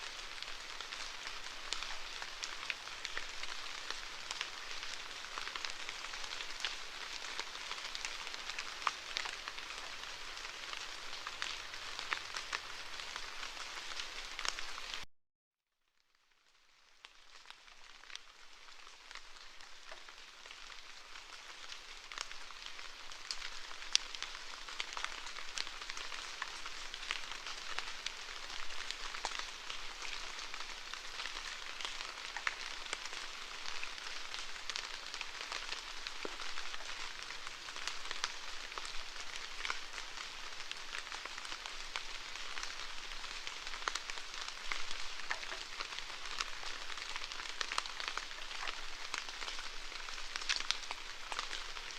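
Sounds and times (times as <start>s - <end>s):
rain falling: 0.0s - 15.0s, 16.5s - 51.9s.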